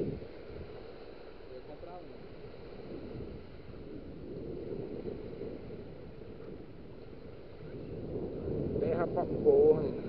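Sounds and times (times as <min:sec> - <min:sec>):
small waves washing on sand: 0:00.0 - 0:10.0
wind rumbling on microphone: 0:00.0 - 0:10.0.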